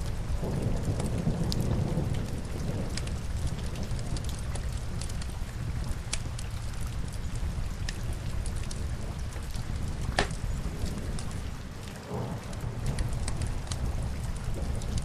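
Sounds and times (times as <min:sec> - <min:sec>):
log fire crackling: 0:00.0 - 0:15.0
rain on window glass: 0:00.0 - 0:15.0.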